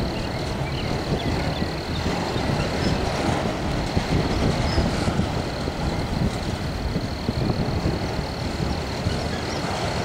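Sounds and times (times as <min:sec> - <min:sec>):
low knocks of rail cars: 0:00.0 - 0:10.0
train wheels rumbling on rails: 0:00.0 - 0:10.0.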